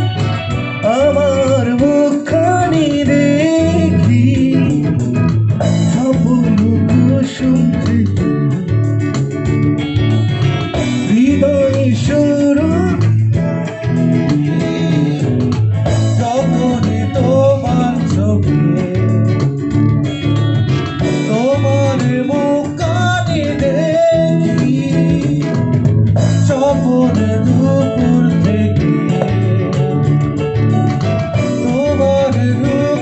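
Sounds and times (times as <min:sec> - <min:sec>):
rock band playing: 0:00.0 - 0:33.0
man singing: 0:00.8 - 0:05.2, 0:05.8 - 0:08.8, 0:11.0 - 0:19.6, 0:21.0 - 0:30.1, 0:31.4 - 0:33.0.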